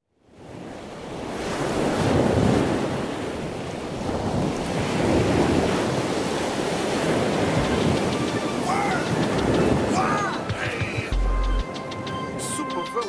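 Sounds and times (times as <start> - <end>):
ocean waves washing in: 0.1 - 13.0.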